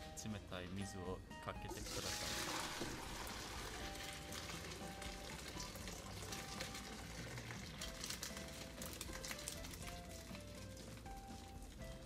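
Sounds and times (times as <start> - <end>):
water pouring into colander: 1.8 - 12.0.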